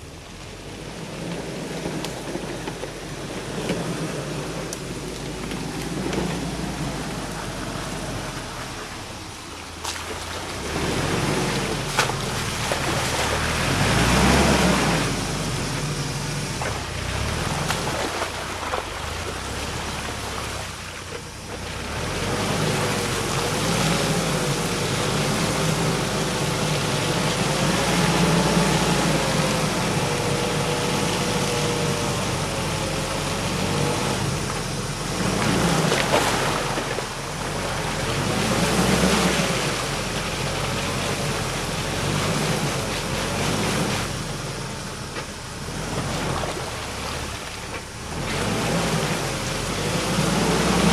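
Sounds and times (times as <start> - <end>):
vehicle engine running low: 0.0 - 50.9.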